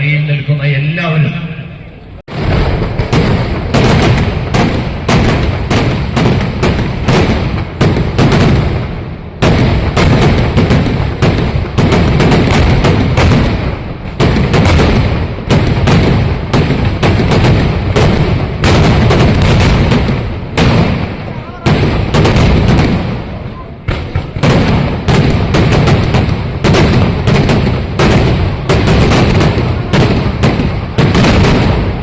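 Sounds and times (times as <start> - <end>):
fireworks banging: 1.8 - 32.0.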